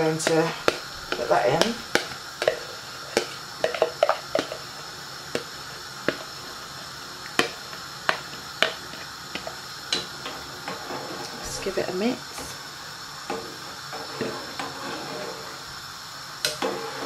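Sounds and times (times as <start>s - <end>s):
boiling bubbles popping: 0.0s - 17.0s
faint steady hiss: 0.0s - 17.0s.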